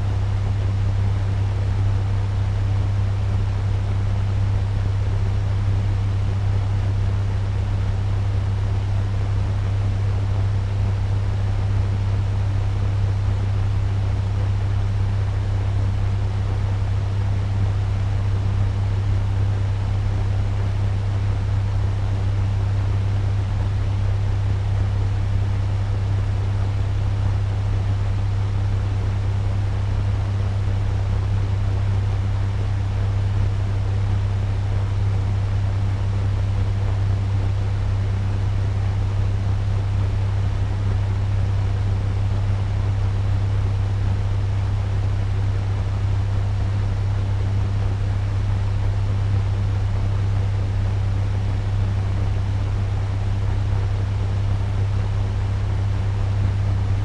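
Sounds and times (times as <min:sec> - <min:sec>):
fan running: 0:00.0 - 0:57.0.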